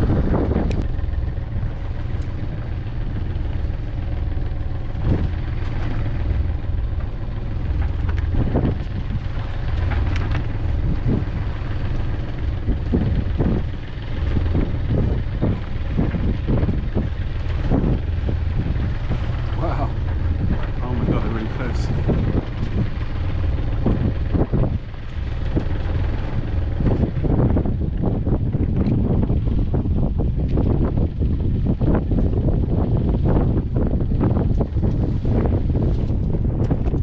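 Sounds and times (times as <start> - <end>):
boat engine droning: 0.0 - 37.0
waves splashing against hull: 0.0 - 37.0
wind buffeting microphone: 0.0 - 37.0.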